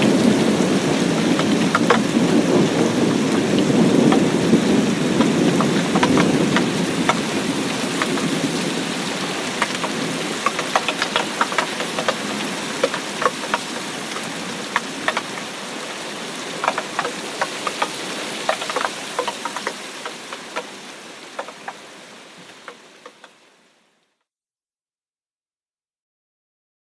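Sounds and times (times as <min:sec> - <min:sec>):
thunder rumble: 0:00.0 - 0:22.8
rain drops striking a surface: 0:00.0 - 0:24.0.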